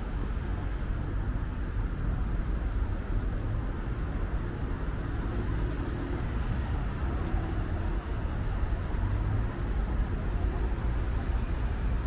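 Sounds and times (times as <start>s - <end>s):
cars passing on busy road: 0.0s - 12.0s.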